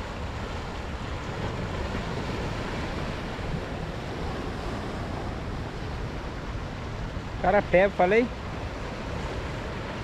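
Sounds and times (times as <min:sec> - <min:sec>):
sea surf on rocky shore: 0:00.0 - 0:10.0
wind on microphone: 0:00.0 - 0:10.0.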